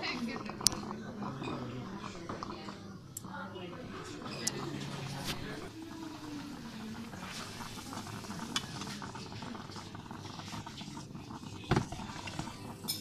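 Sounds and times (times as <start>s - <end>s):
steady noisy background: 0.0s - 13.0s.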